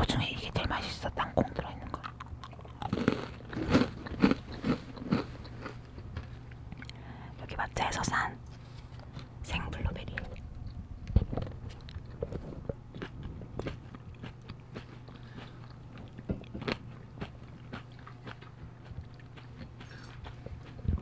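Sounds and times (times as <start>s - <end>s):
blueberries being chewed: 0.6s - 7.2s, 8.5s - 21.0s.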